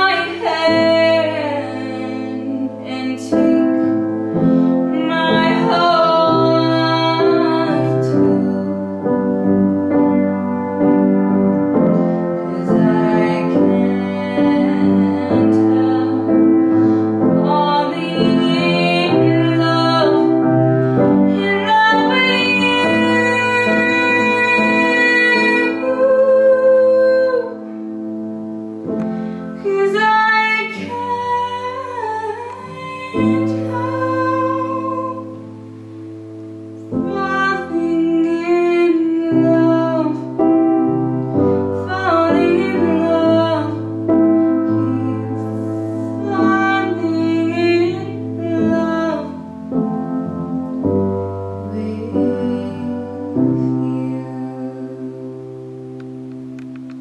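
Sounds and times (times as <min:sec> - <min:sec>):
woman singing: 0:00.0 - 0:10.2, 0:11.7 - 0:27.8, 0:29.6 - 0:35.6, 0:36.8 - 0:55.6
grand piano chords: 0:00.0 - 0:57.0.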